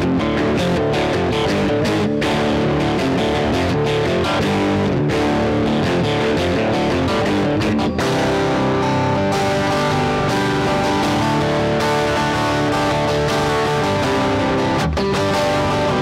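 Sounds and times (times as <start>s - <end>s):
distorted electric guitar strumming chords: 0.0s - 16.0s.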